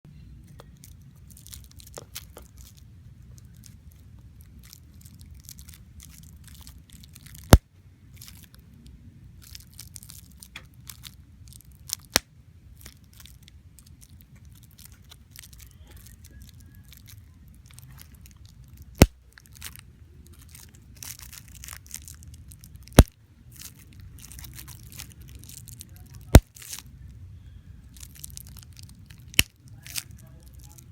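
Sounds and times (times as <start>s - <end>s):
crackling handling noise: 0.4s - 30.9s.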